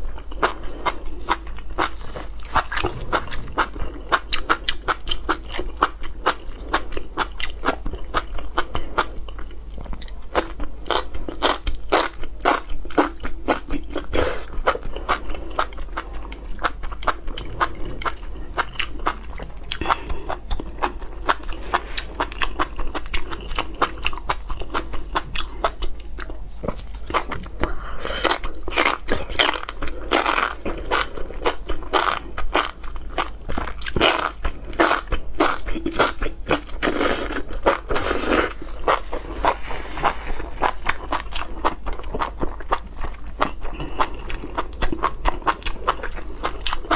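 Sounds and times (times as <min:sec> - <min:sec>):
chewing and crunching: 0:00.0 - 0:46.9.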